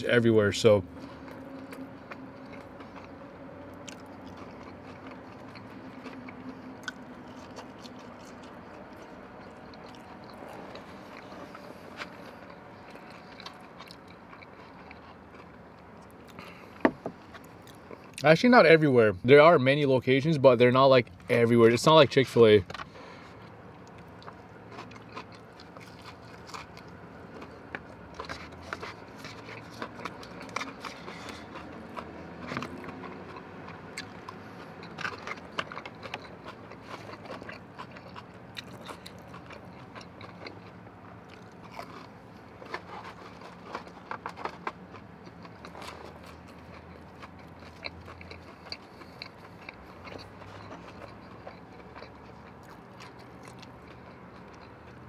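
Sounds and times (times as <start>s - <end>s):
chewing crunchy food: 0.1s - 18.4s, 20.7s - 55.0s.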